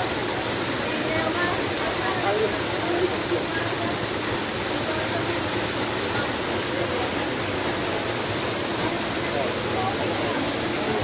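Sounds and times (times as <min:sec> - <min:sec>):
waterfall rushing into a pool: 0:00.0 - 0:11.0.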